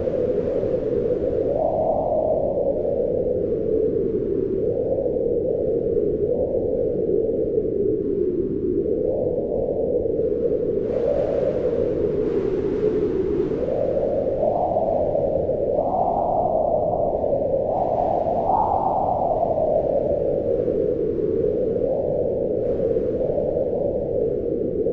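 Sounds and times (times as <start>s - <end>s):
wind howling in a snowstorm: 0.0s - 24.9s.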